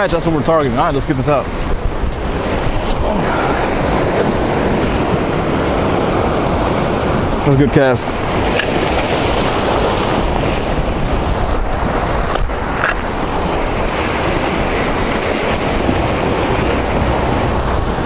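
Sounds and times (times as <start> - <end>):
waves washing onto a jetty: 0.0 - 18.0
wind buffeting microphone: 0.0 - 18.0.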